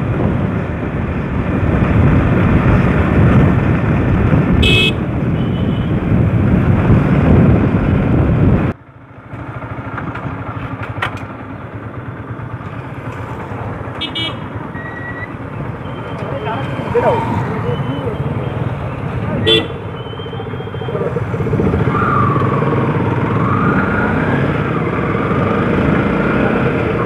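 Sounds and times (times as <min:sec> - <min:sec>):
motorcycle engines and road noise: 0:00.0 - 0:27.0
traffic noise: 0:00.0 - 0:27.0.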